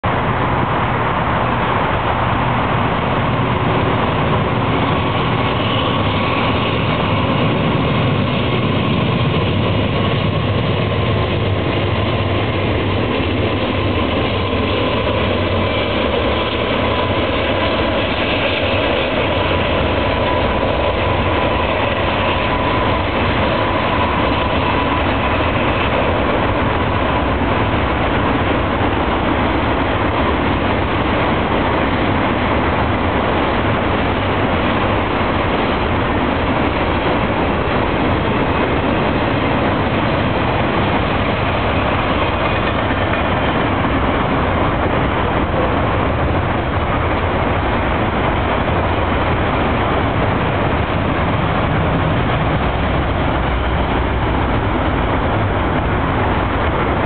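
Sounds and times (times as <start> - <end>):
diesel locomotives running: 0.0 - 57.0
train wheels on rails: 0.0 - 57.0.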